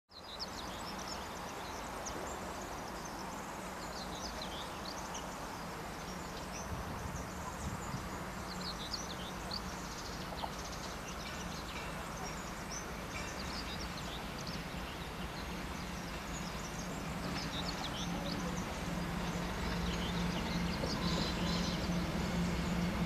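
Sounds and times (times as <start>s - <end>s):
birds chirping and singing: 0.3s - 23.0s.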